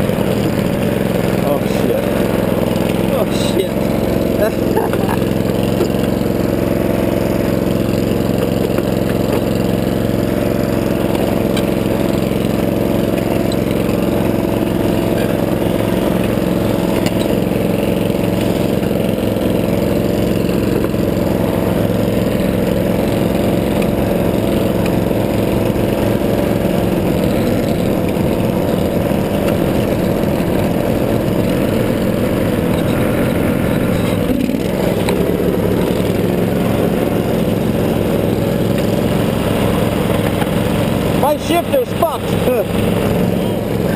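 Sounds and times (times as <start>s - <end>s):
small gasoline engine running: 0.0s - 43.9s.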